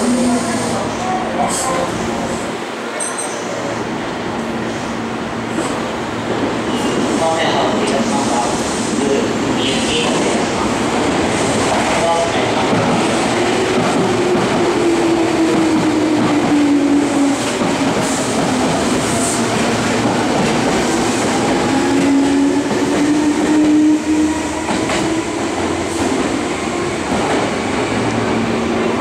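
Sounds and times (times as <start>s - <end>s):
electric train rolling past: 0.0s - 29.0s.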